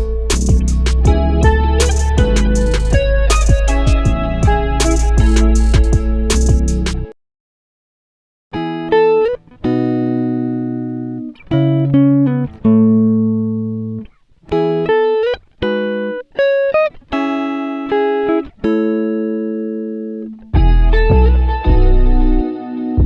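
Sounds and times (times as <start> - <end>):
guitar picked chords: 0.0 - 7.1, 8.5 - 23.0.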